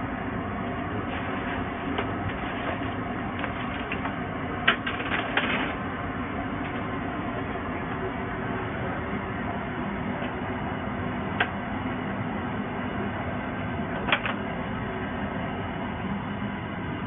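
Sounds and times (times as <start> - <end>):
kitchen machinery humming: 0.0 - 17.0.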